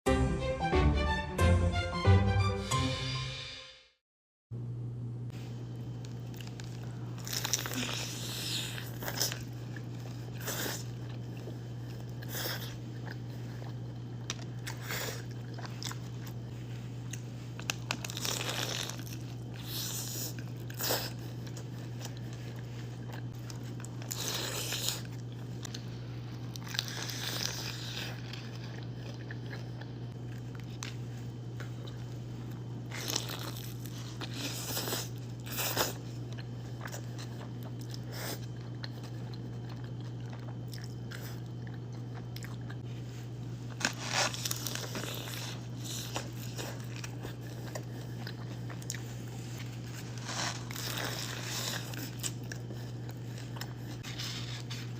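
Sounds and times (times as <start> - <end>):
steady low hum: 4.6 - 54.9
crunching bites into crispy tacos: 5.8 - 42.8, 43.7 - 54.9
chewing: 6.0 - 54.9.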